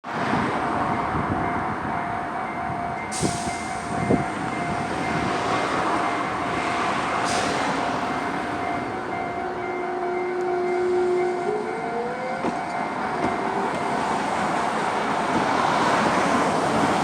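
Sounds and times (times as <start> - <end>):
tram running: 0.1 - 17.0
level-crossing warning bell: 0.3 - 17.0.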